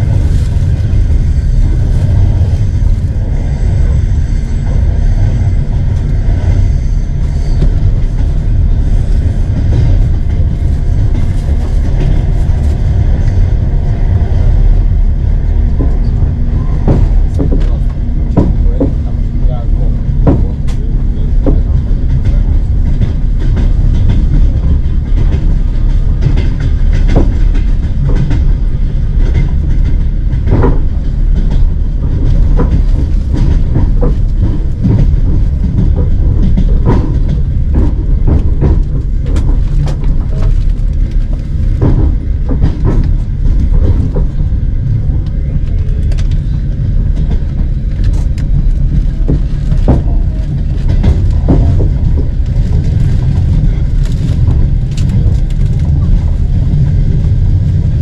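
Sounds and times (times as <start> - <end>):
train carriage rumble: 0.0 - 58.0
wheels clacking on track: 0.0 - 58.0.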